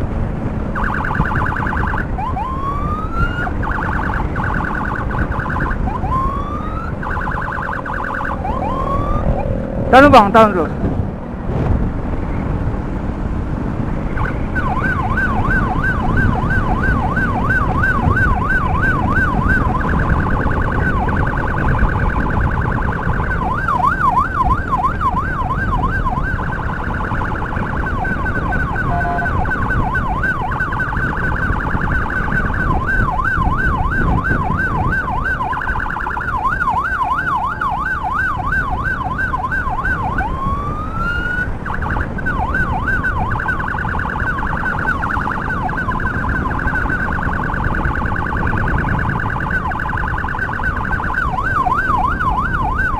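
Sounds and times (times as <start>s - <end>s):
wind and road noise: 0.0s - 52.9s
electronic siren yelp and warble: 0.7s - 10.8s, 14.2s - 52.9s.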